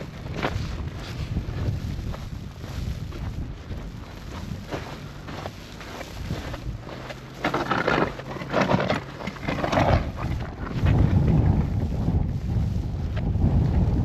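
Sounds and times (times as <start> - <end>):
footsteps crunching in snow: 0.0 - 14.0
wind buffeting microphone: 0.0 - 14.0.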